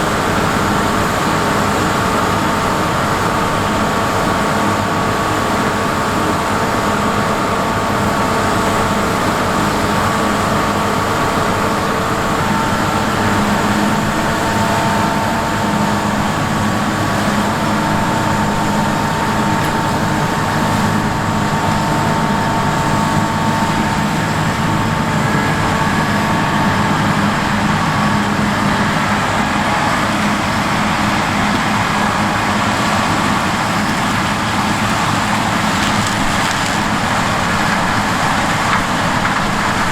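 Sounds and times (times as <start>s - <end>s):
farm machinery engine drone: 0.0s - 39.9s
machinery whining: 0.0s - 39.9s.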